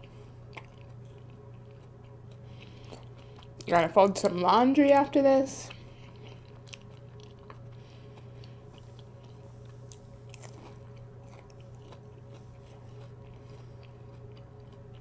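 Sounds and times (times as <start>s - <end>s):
crunchy biting and chewing: 0.0s - 3.7s, 5.7s - 15.0s.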